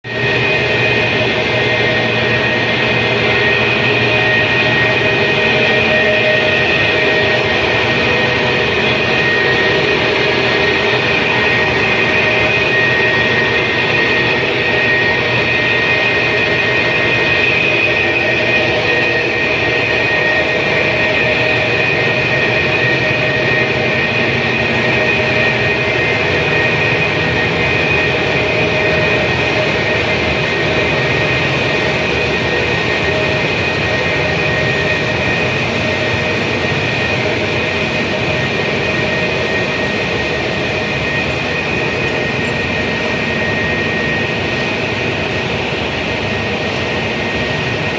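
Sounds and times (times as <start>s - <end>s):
high machine whine: 0.0s - 47.9s
machinery running: 0.0s - 47.9s.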